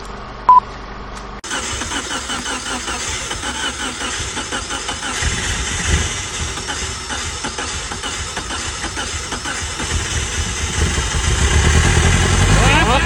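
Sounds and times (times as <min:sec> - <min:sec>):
petrol engine starting and running: 0:01.2 - 0:13.0.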